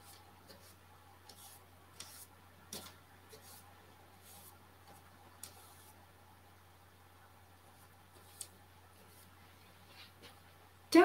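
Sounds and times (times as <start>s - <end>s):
paintbrush strokes on board: 0.0s - 6.1s, 7.6s - 10.5s
low electrical hum: 0.0s - 11.0s.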